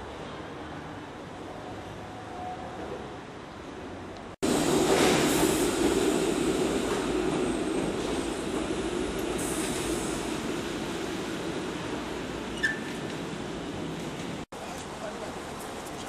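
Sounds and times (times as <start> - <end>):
electric railcar rumbling past: 0.0 - 16.0.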